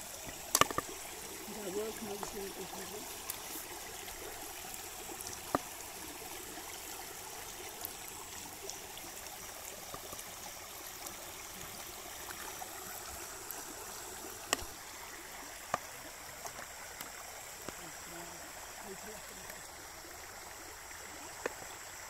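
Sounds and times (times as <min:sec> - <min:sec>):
water lapping around boat: 0:00.0 - 0:19.8.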